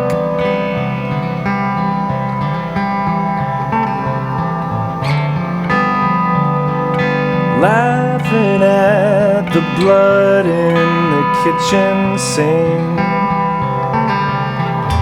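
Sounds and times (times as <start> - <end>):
guitar chords ringing: 0.0 - 15.0.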